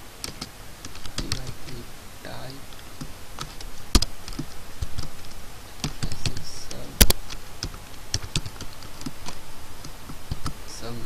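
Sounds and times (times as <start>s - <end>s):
computer keyboard typing: 0.2s - 1.8s, 3.0s - 11.0s.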